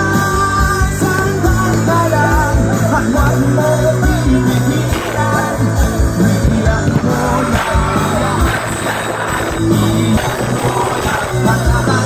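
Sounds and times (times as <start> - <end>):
live rock band playing: 0.0 - 12.0
person singing: 0.0 - 12.0
steady bass line: 0.0 - 12.0.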